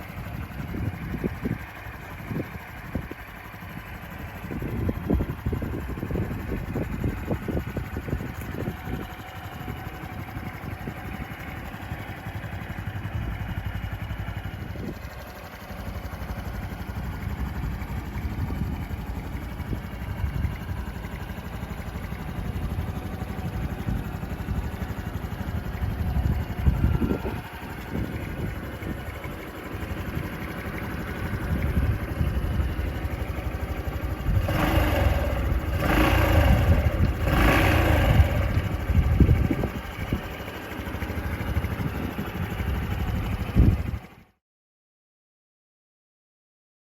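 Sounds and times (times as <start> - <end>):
motorcycle engine running: 0.0 - 44.4.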